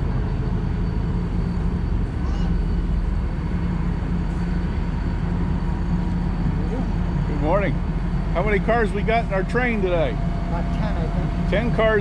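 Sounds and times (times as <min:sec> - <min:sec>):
diesel train idling drone: 0:00.0 - 0:12.0.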